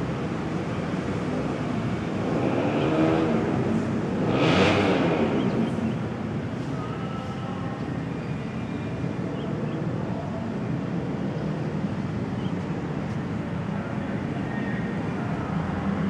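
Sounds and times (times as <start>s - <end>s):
distant city traffic rumble: 0.0s - 16.0s.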